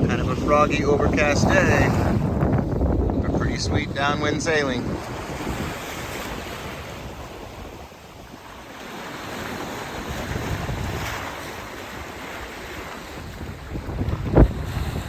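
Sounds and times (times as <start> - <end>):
ocean waves rushing: 0.0 - 15.0
water along boat hull: 0.0 - 15.0
wind on microphone: 0.0 - 15.0.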